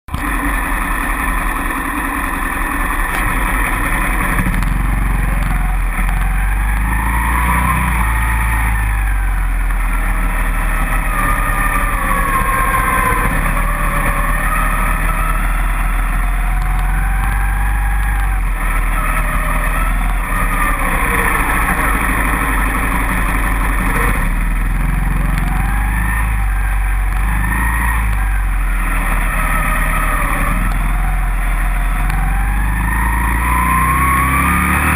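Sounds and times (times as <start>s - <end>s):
low rumble: 0.1s - 33.9s
dirt bike engine revving: 0.1s - 34.9s.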